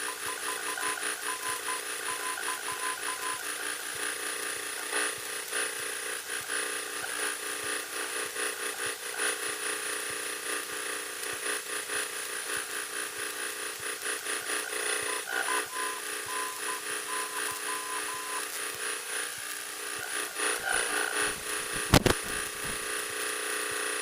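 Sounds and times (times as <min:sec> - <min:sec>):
constant high whine: 0:00.0 - 0:24.0.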